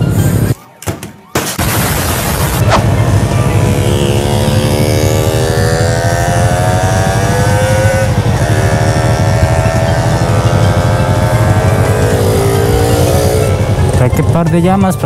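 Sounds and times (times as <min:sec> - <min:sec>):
motorcycle engine accelerating: 0:02.6 - 0:15.0.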